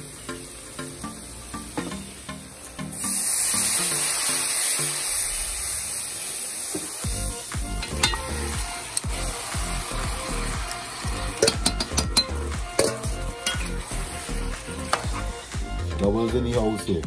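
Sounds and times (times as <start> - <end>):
hot oil sizzling in a pot: 0.0 - 15.9.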